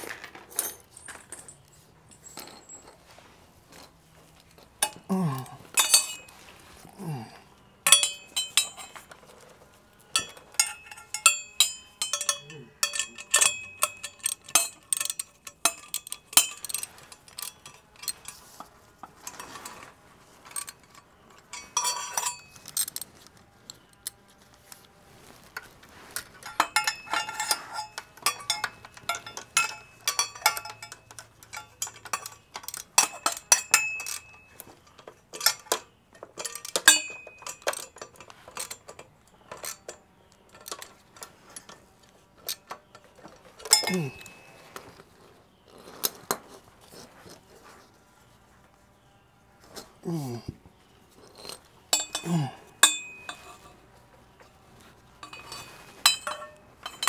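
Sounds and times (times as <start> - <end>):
metal tools clinking: 0.0 - 57.0.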